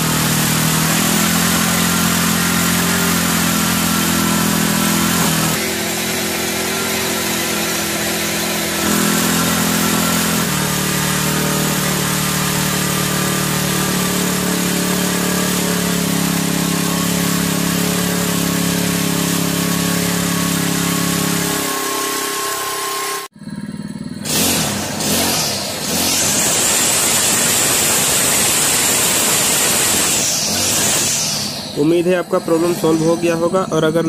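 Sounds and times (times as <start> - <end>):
brush cutter engine high idle: 0.0 - 31.1.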